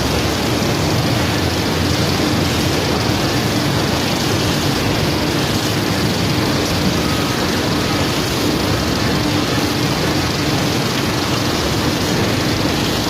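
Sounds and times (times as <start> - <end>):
sand washing machine running: 0.0 - 13.0.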